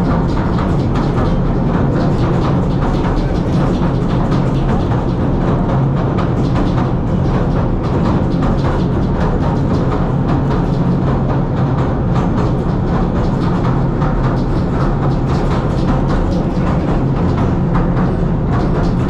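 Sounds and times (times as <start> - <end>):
train rumble and hum: 0.0 - 19.0
wheels clattering on rails: 0.0 - 19.0.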